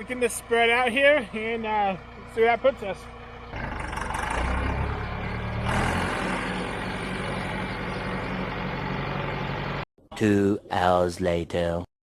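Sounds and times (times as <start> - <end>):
backhoe engine running: 0.0 - 9.8.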